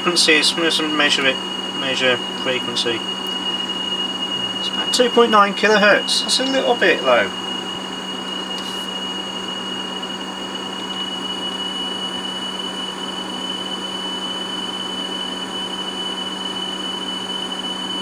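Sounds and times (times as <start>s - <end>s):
steady high test tone: 0.0s - 18.0s.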